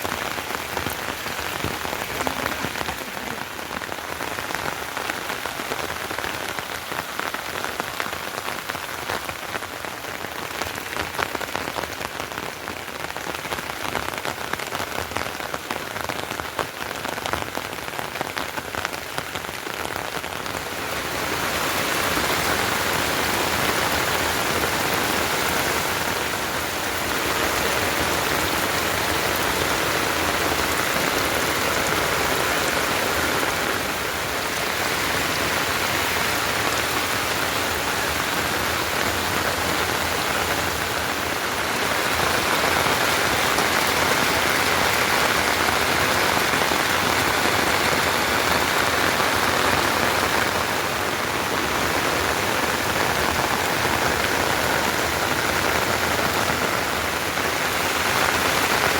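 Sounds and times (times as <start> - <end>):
rain falling: 0.0 - 58.9.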